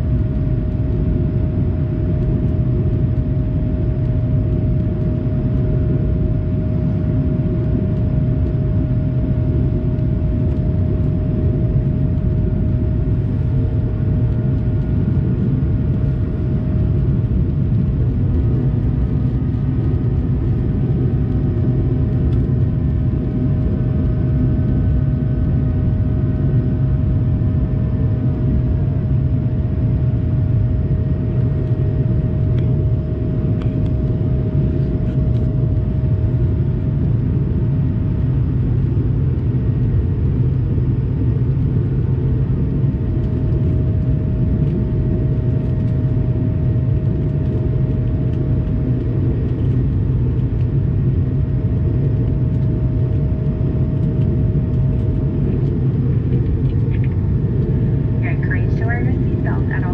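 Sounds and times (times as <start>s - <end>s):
constant hum tone: 0.0s - 59.9s
jet engine drone: 0.0s - 59.9s
airflow over fuselage: 0.1s - 28.2s, 30.0s - 59.9s.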